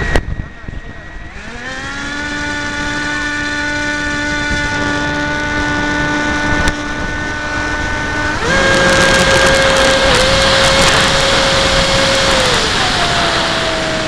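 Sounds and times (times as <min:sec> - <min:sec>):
electric motor and propeller whining: 0:00.0 - 0:14.0.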